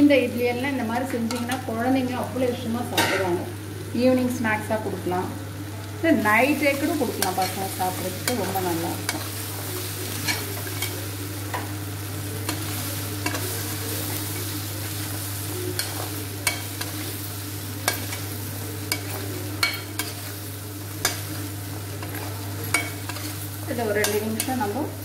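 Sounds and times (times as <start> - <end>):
hot oil sizzling: 0.0 - 25.0.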